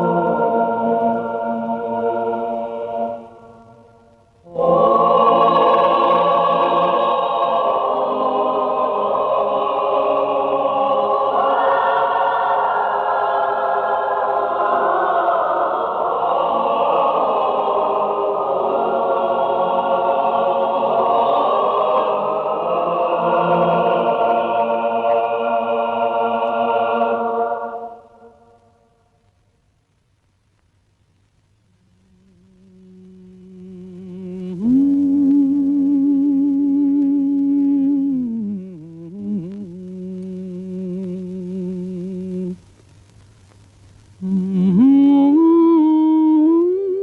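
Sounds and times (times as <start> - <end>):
choir singing held chords: 0.0 - 29.1, 32.0 - 42.6.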